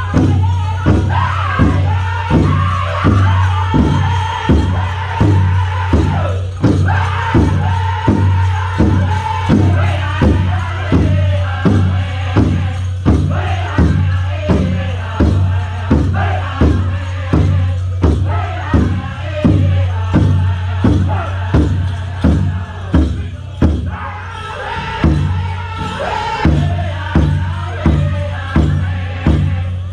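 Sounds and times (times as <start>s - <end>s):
large drum steady beat: 0.0s - 24.0s, 25.0s - 29.9s
men singing in high voices: 0.0s - 29.9s.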